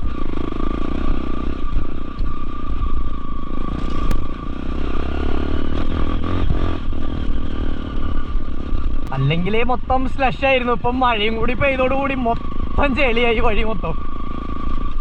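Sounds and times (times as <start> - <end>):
muffled motorcycle engine: 0.0 - 15.0.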